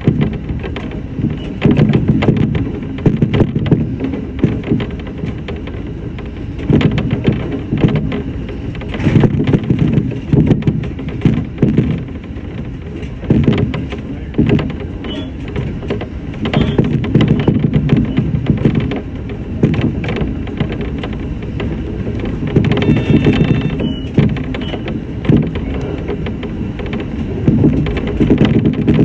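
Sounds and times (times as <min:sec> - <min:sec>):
electric train rumbling: 0:00.0 - 0:29.0
wheels clattering over track: 0:00.0 - 0:29.0.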